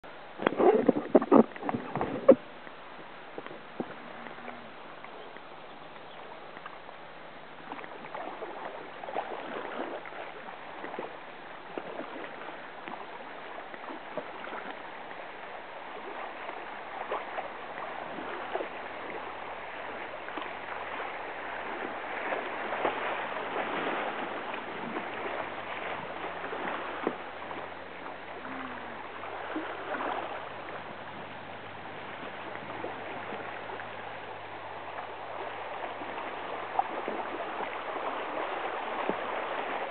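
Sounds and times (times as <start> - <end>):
river water rushing: 0.0 - 39.9
water splashes: 0.0 - 39.9.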